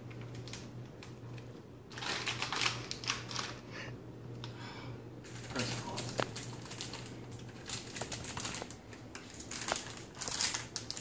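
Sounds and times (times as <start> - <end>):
low steady hum: 0.0 - 11.0
bag crinkling and crackling: 0.1 - 3.7, 5.2 - 11.0.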